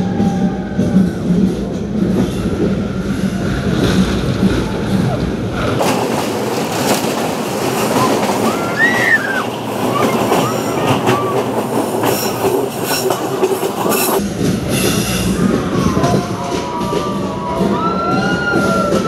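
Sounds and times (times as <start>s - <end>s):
train carriage running on track: 0.0s - 19.0s.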